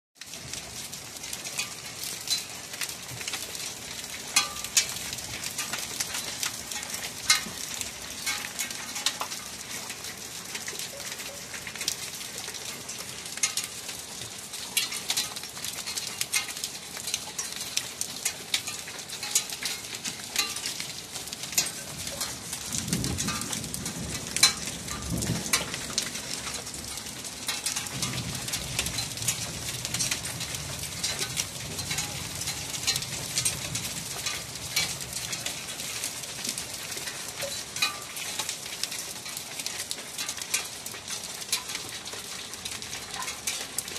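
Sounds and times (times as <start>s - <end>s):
rain falling on concrete and roofs: 0.2s - 43.9s.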